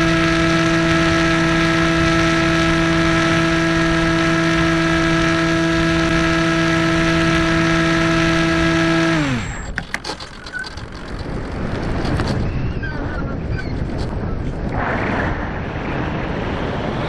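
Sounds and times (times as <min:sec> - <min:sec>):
electric motor and propeller whine: 0:00.0 - 0:17.0.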